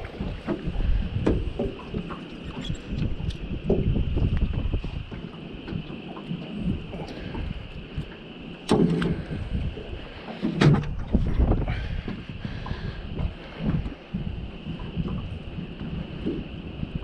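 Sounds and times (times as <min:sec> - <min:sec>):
faint steady whine: 0:00.0 - 0:17.0
wind buffeting microphone: 0:00.0 - 0:17.0.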